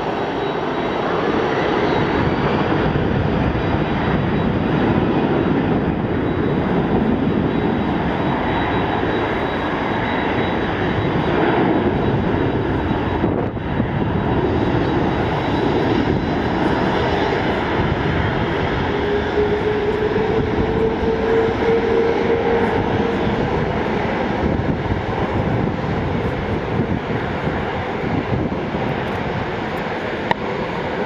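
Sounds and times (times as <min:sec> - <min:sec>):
jet engines idling: 0:00.0 - 0:31.0.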